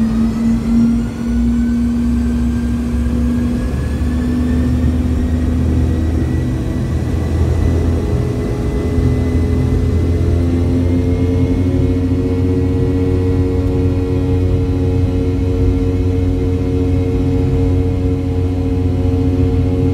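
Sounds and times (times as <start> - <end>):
engine whine rising in pitch: 0.0 - 19.9
jet engine drone in cabin: 0.0 - 19.9.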